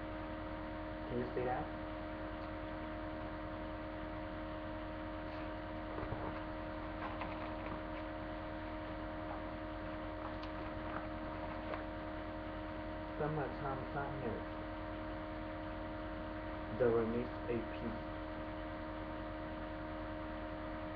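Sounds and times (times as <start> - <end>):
mains hum and hiss: 0.0 - 20.9.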